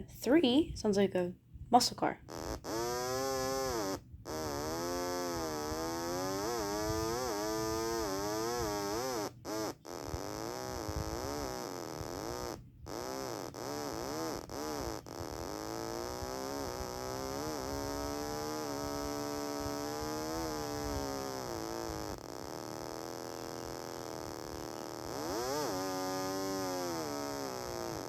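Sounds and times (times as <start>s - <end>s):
stylophone buzzy electronic tone: 2.3s - 28.0s.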